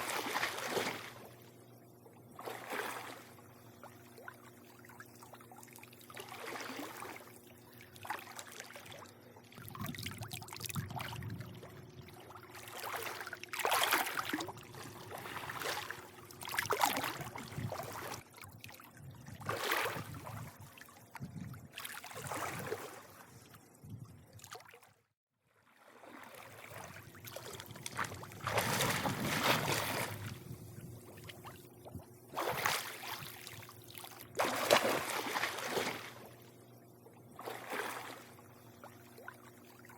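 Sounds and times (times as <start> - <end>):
faint low hum: 0.0 - 24.5, 26.2 - 39.9
pool water lapping and sloshing: 0.0 - 39.9.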